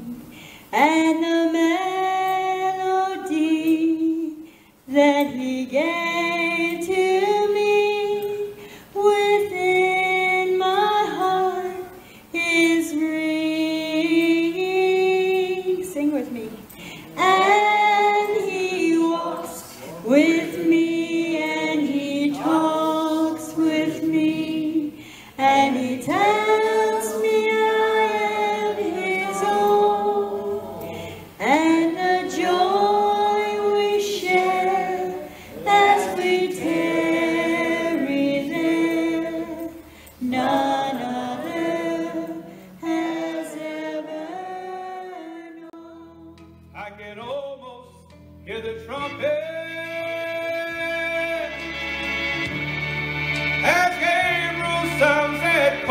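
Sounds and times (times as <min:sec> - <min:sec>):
woman singing through pa: 0:00.0 - 0:46.5.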